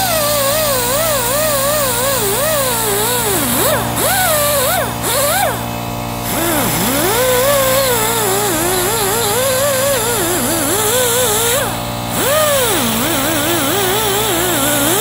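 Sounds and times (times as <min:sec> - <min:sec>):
die grinder whine: 0:00.0 - 0:15.0.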